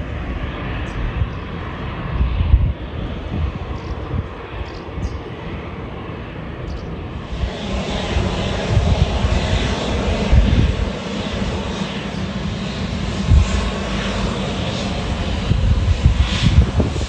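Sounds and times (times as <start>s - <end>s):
aircraft engines running: 0.0s - 17.0s.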